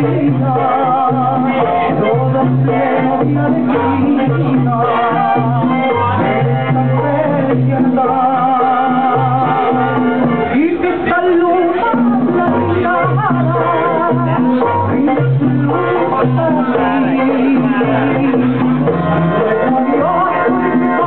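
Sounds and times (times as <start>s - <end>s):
loud salsa dance music: 0.0s - 21.0s.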